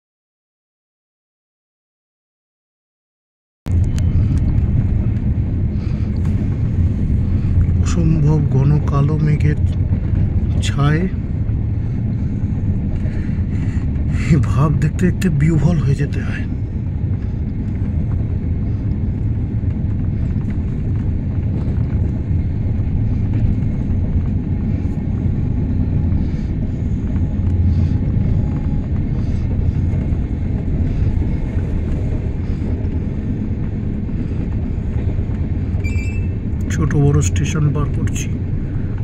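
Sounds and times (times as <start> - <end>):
train carriage rumbling on rails: 3.7 - 39.0.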